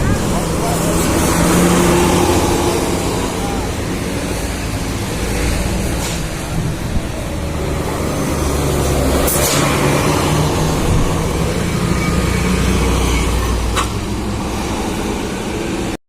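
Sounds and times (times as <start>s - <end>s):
bus diesel engine rumble: 0.0s - 16.0s.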